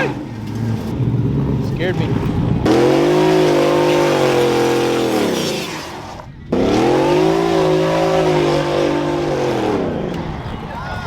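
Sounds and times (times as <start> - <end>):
truck engine revving hard: 0.0 - 10.2.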